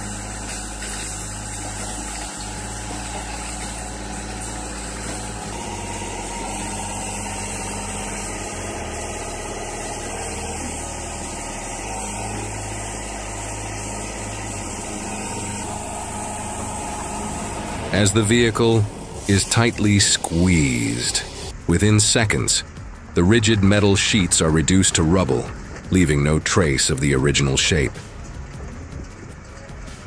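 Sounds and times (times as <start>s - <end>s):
hydraulic press drone: 0.0s - 30.0s.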